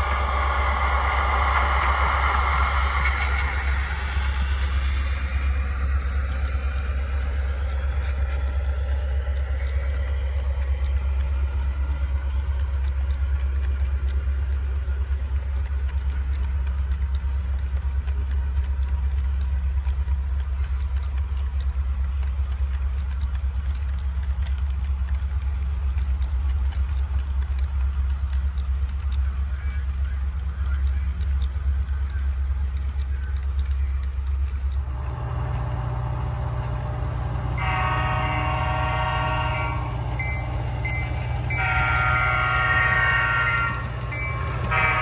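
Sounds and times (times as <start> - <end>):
model train rumbling: 0.0 - 45.0
faint track clicks: 0.1 - 45.0.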